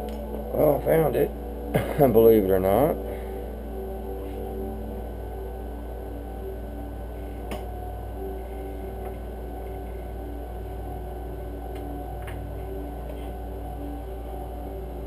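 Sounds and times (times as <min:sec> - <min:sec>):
background music: 0:00.0 - 0:15.0
low electrical hum: 0:00.0 - 0:15.0.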